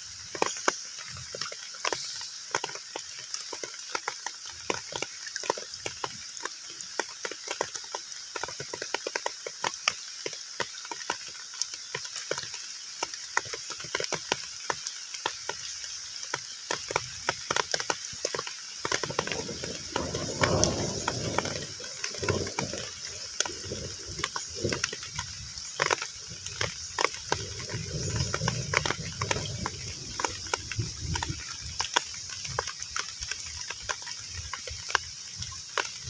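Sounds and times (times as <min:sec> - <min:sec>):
heavy rain hissing: 0:00.0 - 0:07.7, 0:10.2 - 0:36.0
raindrops plinking on water: 0:00.0 - 0:36.0.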